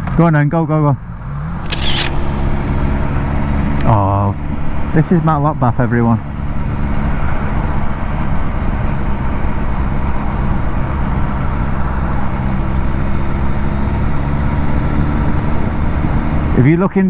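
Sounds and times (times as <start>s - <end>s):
wind and road noise: 0.0s - 17.0s
motorcycle engine running: 1.1s - 16.7s.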